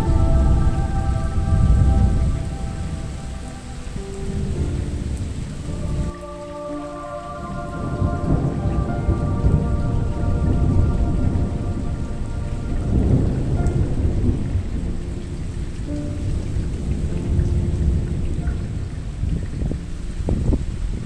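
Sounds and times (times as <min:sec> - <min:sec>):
rain falling: 0:00.0 - 0:21.0
soft music chords: 0:00.0 - 0:21.0
thunder rumbling: 0:00.0 - 0:21.0.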